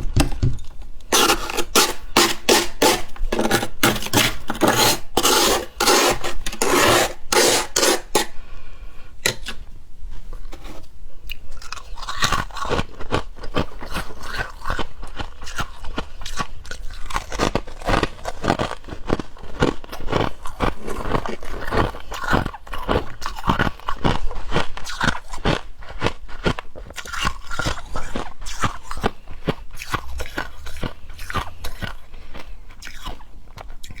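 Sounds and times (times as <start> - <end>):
person chewing crunchy frost: 0.8 - 34.0.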